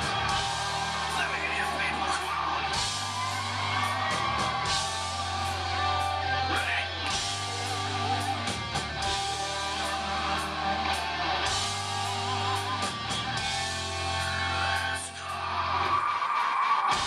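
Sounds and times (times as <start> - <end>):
bass line: 0.0 - 16.0
electric guitars: 0.0 - 17.0.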